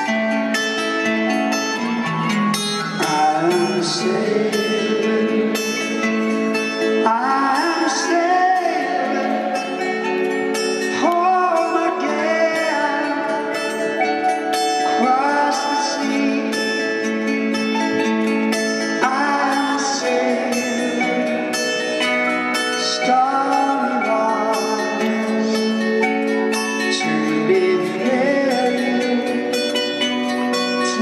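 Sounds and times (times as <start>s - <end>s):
live band playing a ballad: 0.0s - 31.0s
lead vocal singing: 2.9s - 31.0s.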